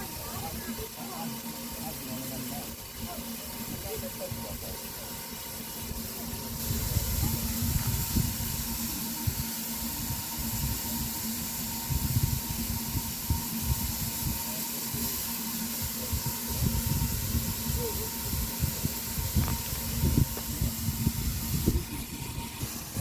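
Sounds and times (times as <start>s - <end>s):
steam hissing: 0.0s - 23.0s.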